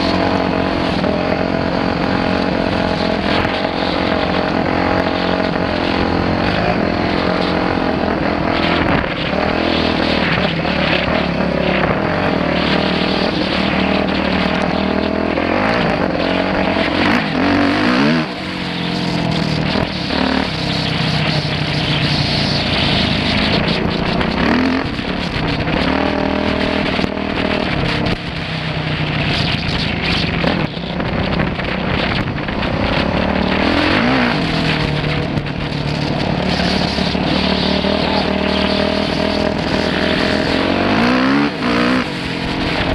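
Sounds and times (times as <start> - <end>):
dirt bike engine revving: 0.0 - 42.9
steady rushing noise: 0.0 - 42.9.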